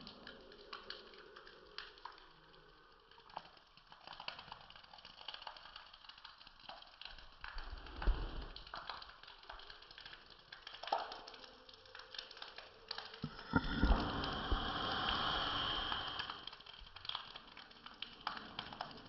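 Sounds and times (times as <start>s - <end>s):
raindrops pattering: 0.0s - 19.0s.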